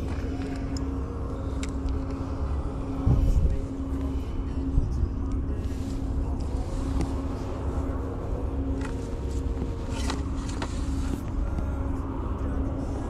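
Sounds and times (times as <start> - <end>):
machine droning hum: 0.0 - 13.0.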